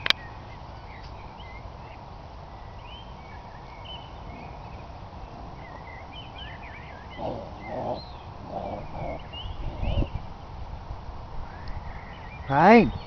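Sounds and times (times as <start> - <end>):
small birds chirping: 0.0 - 13.0
steady low background noise: 0.0 - 13.0.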